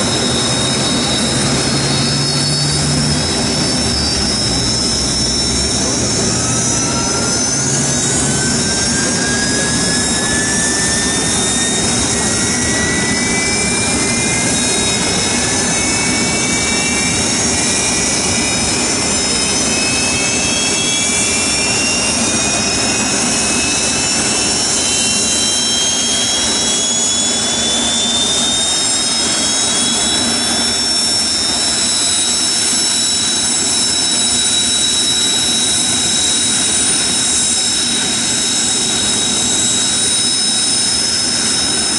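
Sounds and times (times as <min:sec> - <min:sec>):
jet engines spooling up: 0:00.0 - 0:41.9
jet engines whining: 0:00.0 - 0:41.9.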